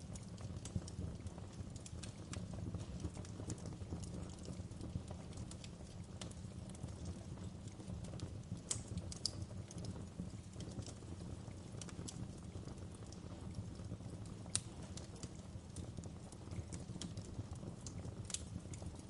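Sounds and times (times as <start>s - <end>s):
gentle rain: 0.0s - 19.0s
wood fire crackling: 0.0s - 19.0s.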